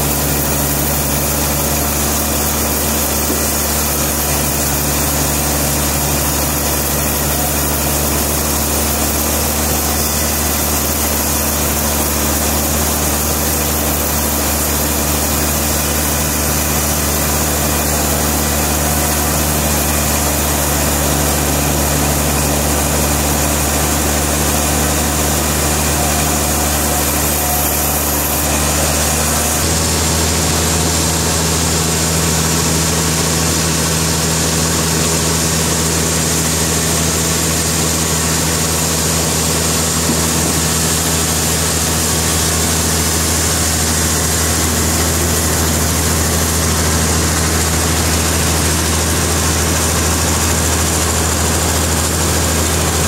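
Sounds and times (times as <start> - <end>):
heavy engine drone: 0.0 - 53.0
sawmill machinery running: 0.0 - 53.0.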